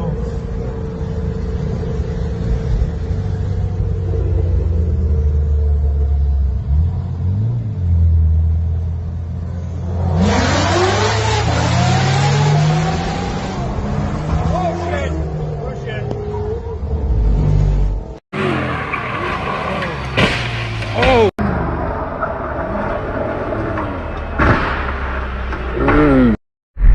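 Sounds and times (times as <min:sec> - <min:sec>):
engines revving: 0:00.0 - 0:26.4
car engine and road noise: 0:00.0 - 0:26.9.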